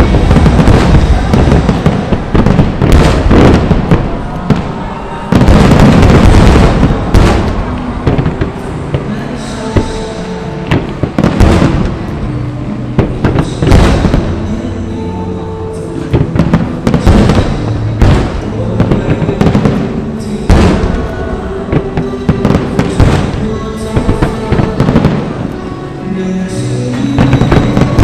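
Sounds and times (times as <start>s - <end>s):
fireworks bangs: 0.0s - 15.0s, 15.7s - 28.0s
fireworks crackling: 0.0s - 28.0s
music playing: 0.0s - 28.0s.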